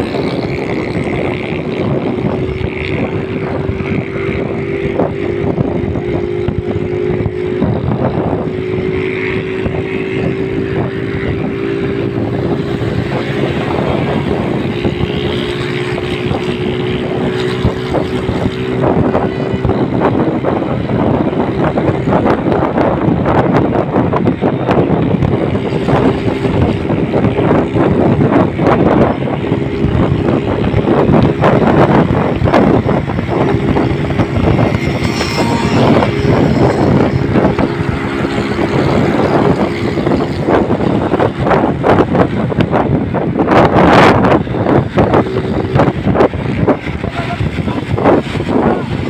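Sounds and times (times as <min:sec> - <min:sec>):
rickshaw engine running hard: 0:00.0 - 0:49.0
wind buffeting microphone: 0:00.0 - 0:49.0.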